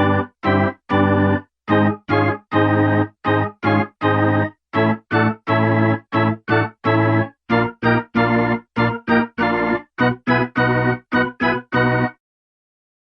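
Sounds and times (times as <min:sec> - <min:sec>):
organ-like keyboard chords: 0:00.0 - 0:12.2.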